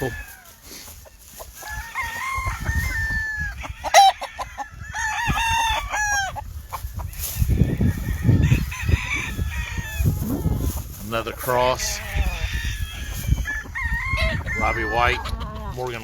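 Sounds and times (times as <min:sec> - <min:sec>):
roosters crowing: 0:00.0 - 0:16.0.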